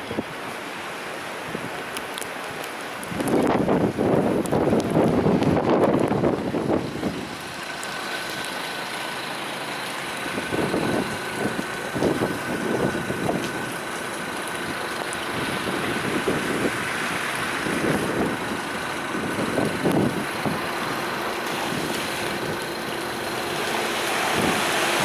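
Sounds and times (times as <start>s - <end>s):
road noise: 0.0s - 25.0s
vehicle engine running: 4.5s - 25.0s.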